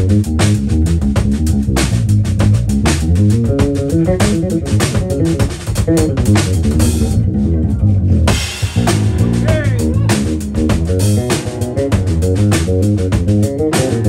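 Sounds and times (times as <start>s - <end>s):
drum kit: 0.0s - 14.0s
electric bass guitar: 0.0s - 14.0s.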